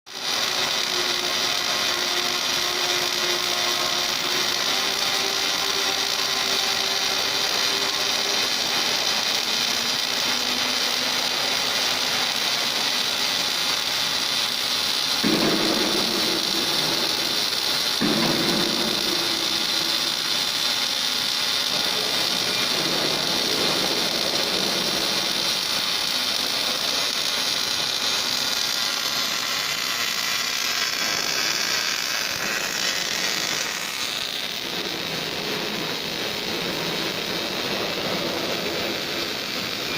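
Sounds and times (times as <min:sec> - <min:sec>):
welding hiss: 0:00.1 - 0:39.9.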